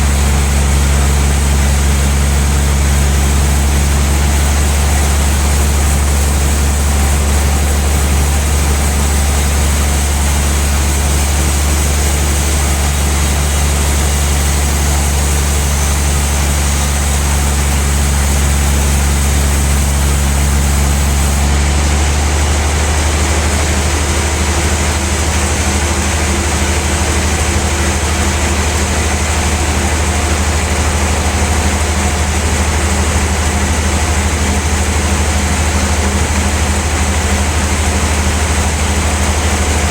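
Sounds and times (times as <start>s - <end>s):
band saw running: 0.0s - 39.9s.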